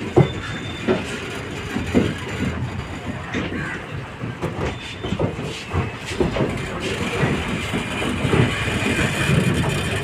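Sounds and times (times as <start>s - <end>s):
train wheels on track: 0.0s - 10.0s.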